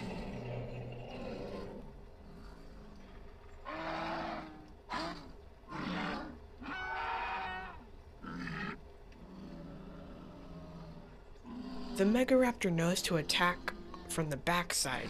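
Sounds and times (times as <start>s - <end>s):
dinosaur roars and growls: 0.0s - 12.2s, 12.9s - 14.3s.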